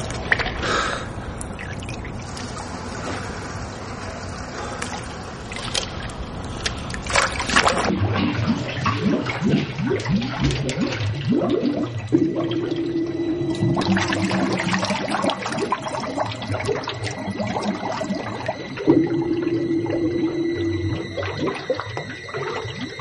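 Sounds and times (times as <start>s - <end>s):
gurgling bubbles: 0.0s - 23.0s
pool water sloshing and lapping: 0.0s - 23.0s
swimmer splashing: 0.0s - 23.0s.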